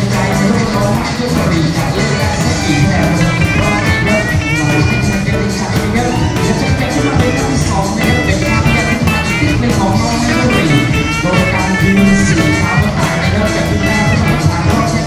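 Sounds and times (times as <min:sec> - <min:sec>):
loud music with fast beat: 0:00.0 - 0:15.0.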